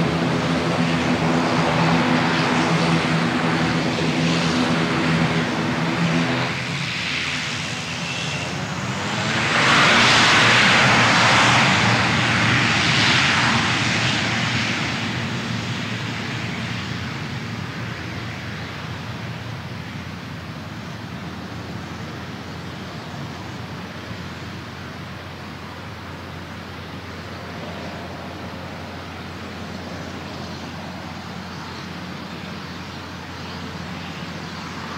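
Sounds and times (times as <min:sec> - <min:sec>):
jet engine rush: 0:00.0 - 0:34.9
low engine hum: 0:00.0 - 0:34.9.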